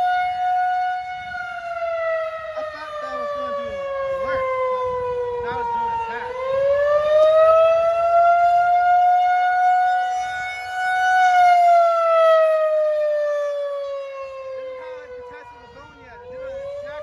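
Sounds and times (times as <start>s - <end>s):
rotating warning siren wailing: 0.0s - 17.0s.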